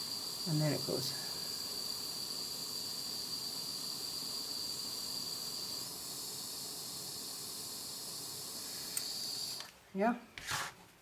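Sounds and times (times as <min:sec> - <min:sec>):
torch flame hissing: 0:00.0 - 0:09.8.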